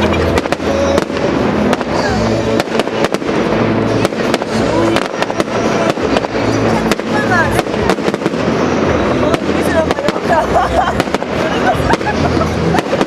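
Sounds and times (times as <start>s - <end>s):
fireworks bangs and crackles: 0.0s - 13.0s
music with held low notes: 0.0s - 13.0s.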